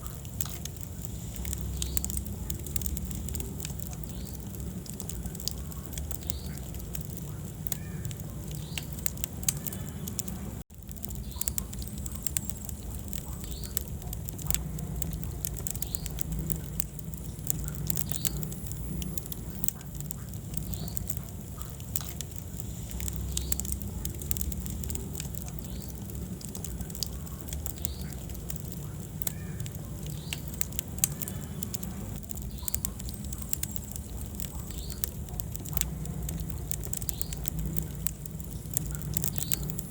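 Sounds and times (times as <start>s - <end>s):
flames rumbling: 0.0s - 39.9s
wood fire crackling and popping: 0.0s - 39.9s.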